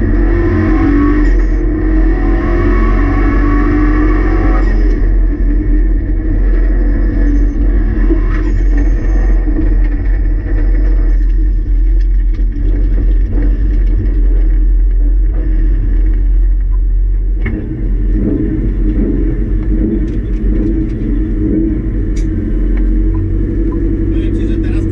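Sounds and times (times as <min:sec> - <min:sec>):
car engine rumbling under load: 0:00.0 - 0:24.9.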